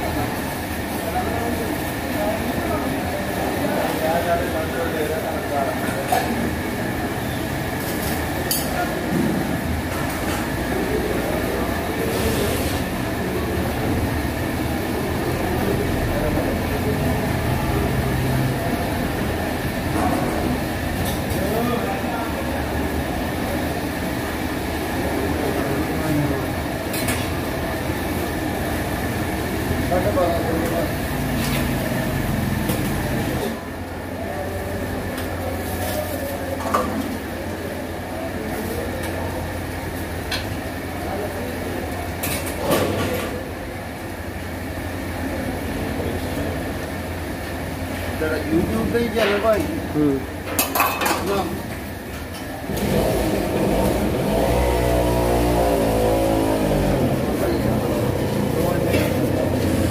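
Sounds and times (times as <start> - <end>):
faint voices: 0.0 - 59.9.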